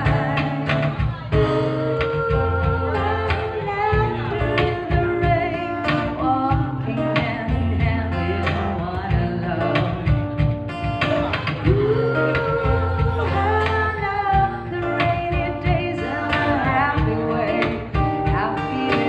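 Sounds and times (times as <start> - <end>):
acoustic guitar strumming: 0.0 - 19.0
acoustic percussion: 0.0 - 19.0
woman singing: 0.0 - 19.0.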